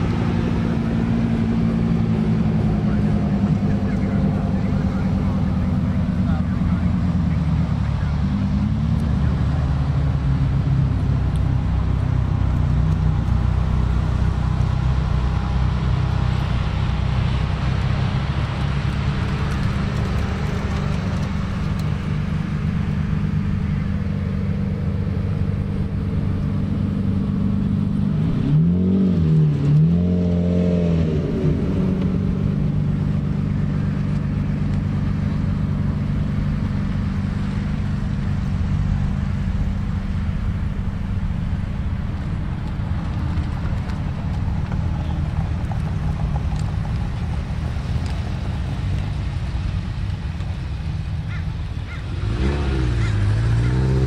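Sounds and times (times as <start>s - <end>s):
engine revving: 0.0s - 41.6s, 51.3s - 54.0s
sports car engines driving past: 0.0s - 54.0s.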